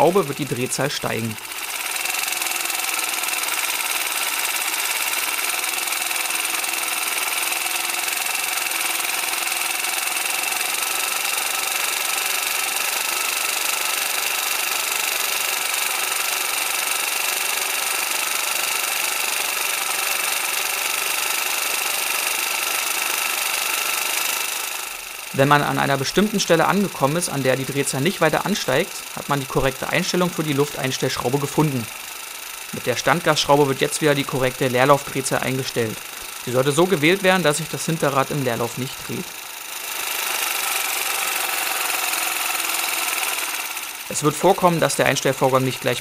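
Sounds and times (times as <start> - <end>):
scooter engine idling: 0.0 - 46.0.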